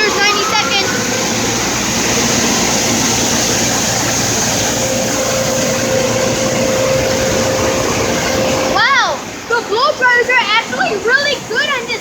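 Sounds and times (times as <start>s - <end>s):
faint steady hum: 0.0s - 9.9s
blow dryers rushing air: 0.0s - 10.0s.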